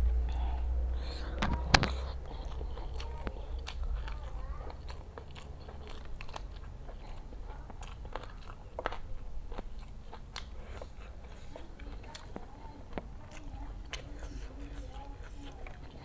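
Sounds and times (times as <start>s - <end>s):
wet chewing mouth clicks: 0.0s - 16.0s.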